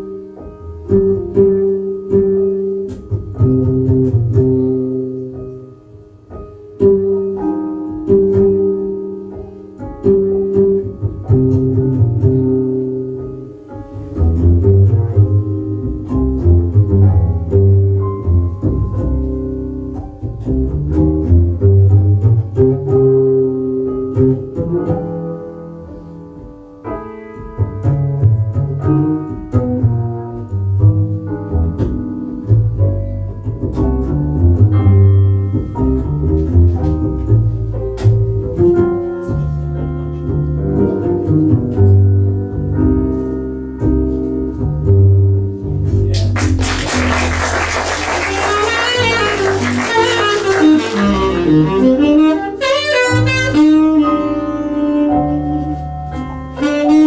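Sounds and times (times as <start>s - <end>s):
double bass plucked notes: 0.0s - 57.0s
piano chords: 0.0s - 57.0s.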